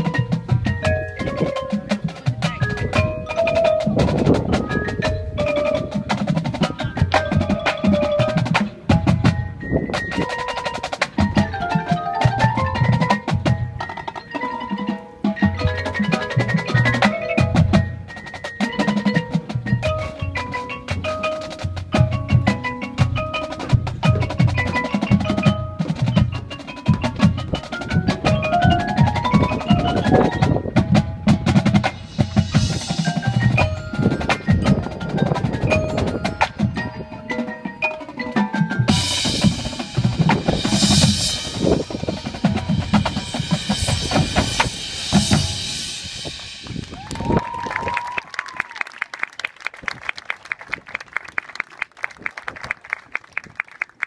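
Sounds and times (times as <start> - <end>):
marching snare and bass drums: 0.0 - 47.9
marimbas playing melodic lines: 0.0 - 48.8.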